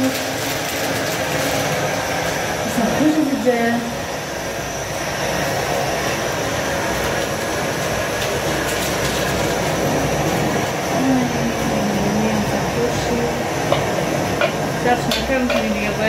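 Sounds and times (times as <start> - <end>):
steamer pot boiling: 0.0 - 16.0.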